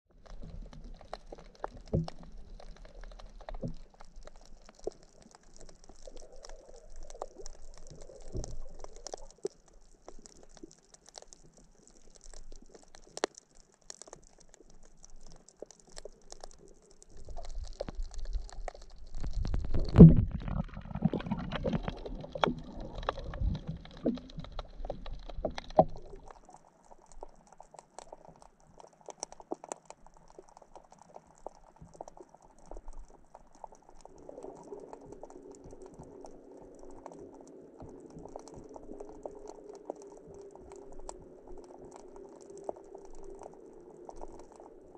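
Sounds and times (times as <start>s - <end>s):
low rumbling water noise: 0.1s - 44.9s
underwater clicks and crackles: 0.1s - 44.9s.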